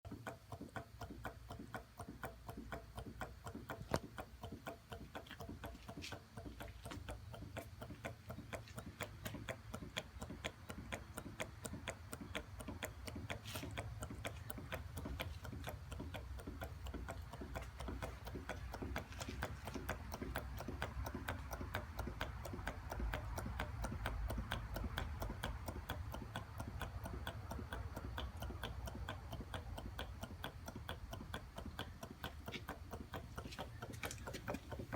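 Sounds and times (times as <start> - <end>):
engine mechanical ticking: 0.0 - 34.9
low engine rumble: 0.0 - 34.9.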